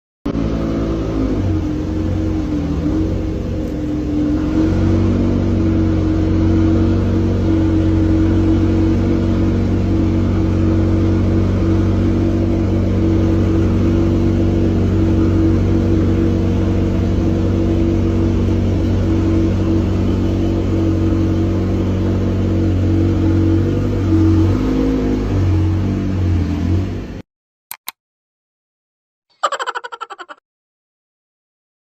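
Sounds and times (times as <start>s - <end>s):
car engine running steadily: 0.3s - 27.2s.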